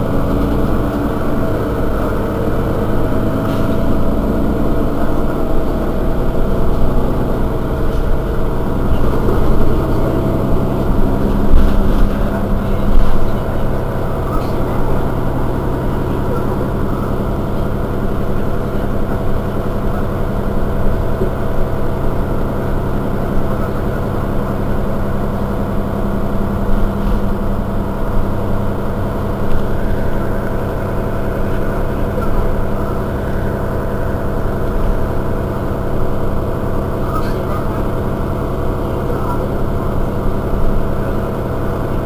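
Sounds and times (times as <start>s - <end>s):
bus engine idling: 0.0s - 42.0s.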